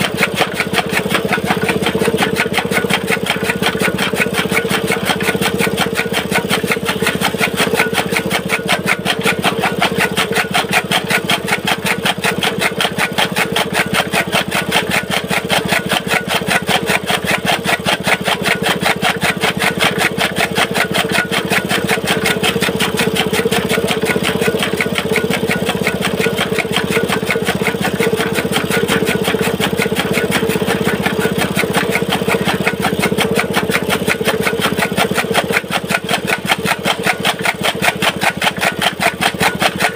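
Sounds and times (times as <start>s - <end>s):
chaff cutter chopping fodder: 0.0s - 39.9s
small petrol engine running: 0.0s - 39.9s.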